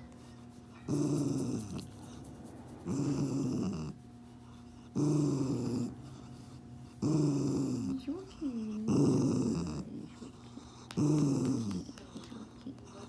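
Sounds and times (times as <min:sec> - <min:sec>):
dog rumbling breaths: 0:00.0 - 0:13.0.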